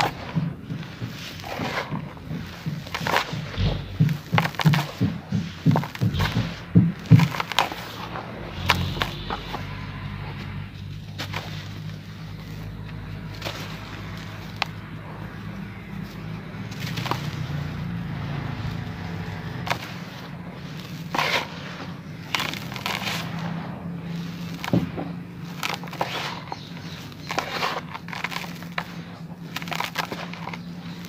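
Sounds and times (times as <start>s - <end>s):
steady low hum: 0.0s - 29.6s
dry dirt crunching by hand: 0.0s - 31.0s.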